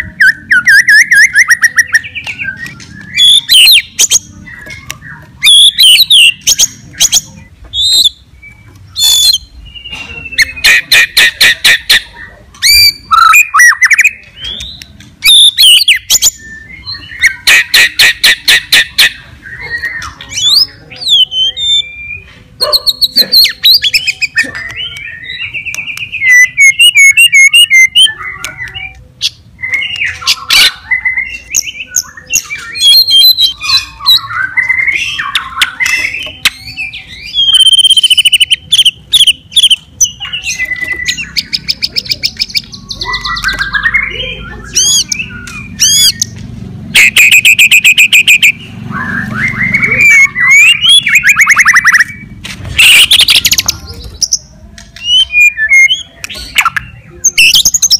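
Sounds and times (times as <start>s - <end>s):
bird singing whistled phrases: 0.0s - 46.4s, 47.0s - 54.4s, 55.0s - 57.9s.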